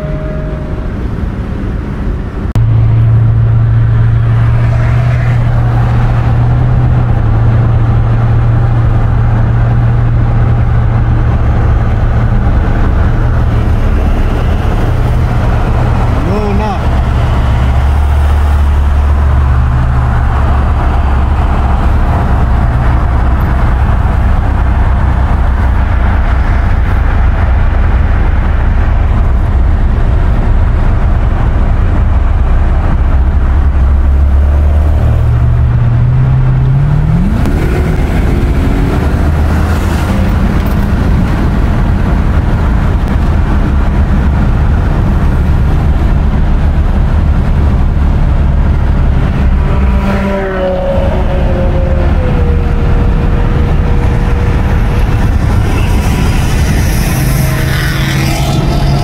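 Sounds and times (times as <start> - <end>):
car cabin engine and tyre drone: 0.0 - 59.0
car engine accelerating hard: 0.0 - 59.0.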